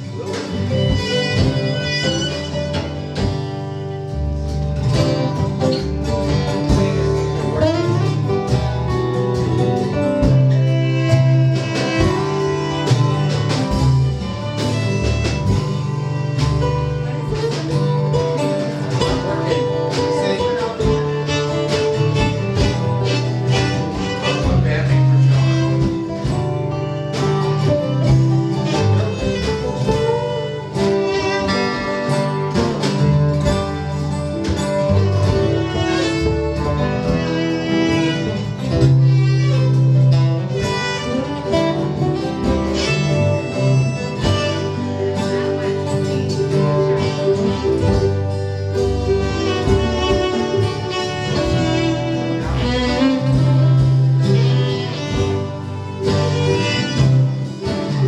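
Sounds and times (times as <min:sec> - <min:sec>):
fiddle: 0:00.0 - 0:58.0
guitar: 0:00.0 - 0:58.0
low bass notes: 0:00.0 - 0:58.0.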